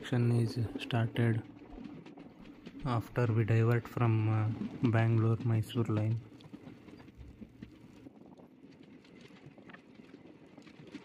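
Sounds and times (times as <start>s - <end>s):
wheels clicking on rails: 0.0s - 11.0s.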